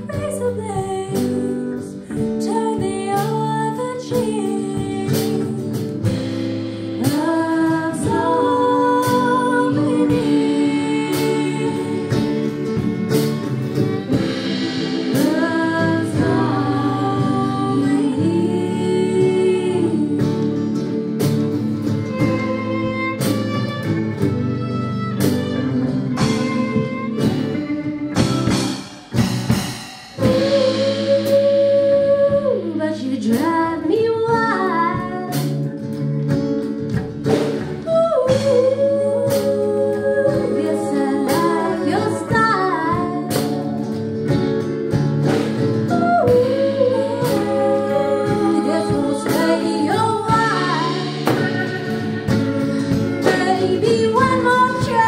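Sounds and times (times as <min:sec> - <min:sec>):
woman singing: 0:00.0 - 0:23.3, 0:30.2 - 0:36.0, 0:37.2 - 0:44.3, 0:45.8 - 0:55.0
acoustic band playing: 0:00.0 - 0:55.0.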